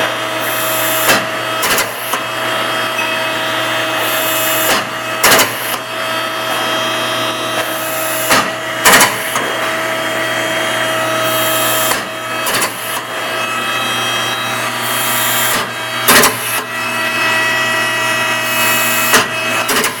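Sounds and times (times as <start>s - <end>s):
held whining tones: 0.0s - 19.9s
machine humming: 0.0s - 20.0s.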